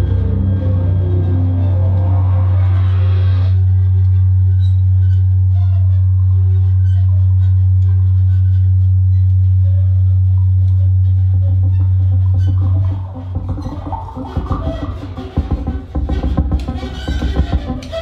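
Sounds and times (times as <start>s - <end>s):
loud low electronic drone: 0.0s - 6.5s, 8.7s - 17.5s
noisy upper electronic layer: 0.0s - 18.0s.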